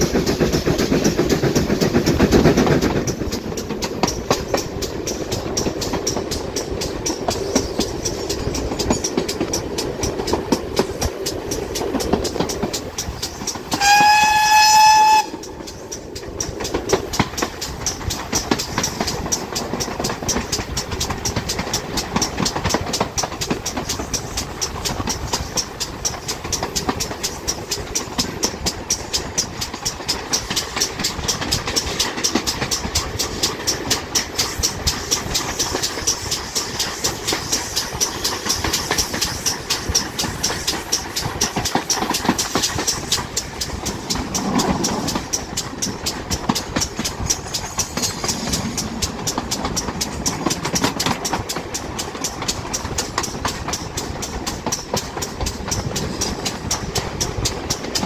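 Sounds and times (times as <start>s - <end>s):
steam locomotive exhaust chuffs: 0.0s - 58.0s
wheel and rail noise: 0.0s - 58.0s.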